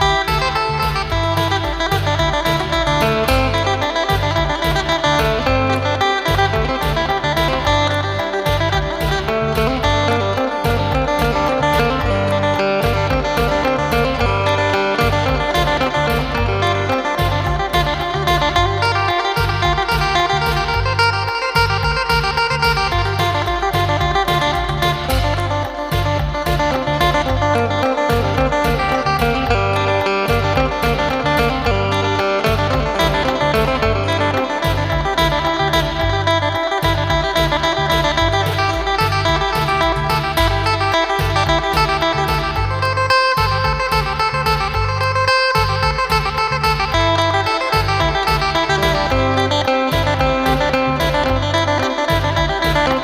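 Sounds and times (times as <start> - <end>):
bass line: 0.0 - 53.0
electric lute melody: 0.0 - 53.0
steady beat: 0.0 - 53.0.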